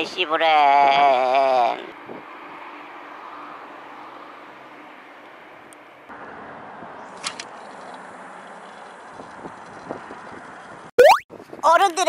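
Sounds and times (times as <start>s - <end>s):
distant road traffic hum: 0.0s - 10.9s.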